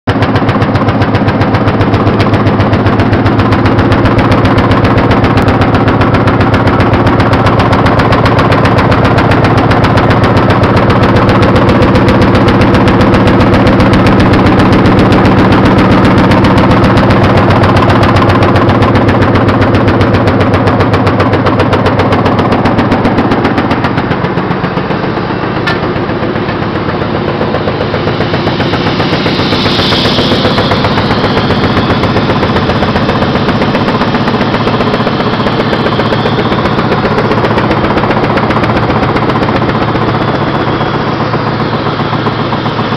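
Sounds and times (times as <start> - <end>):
needle-punching machine clattering: 0.1 - 42.9.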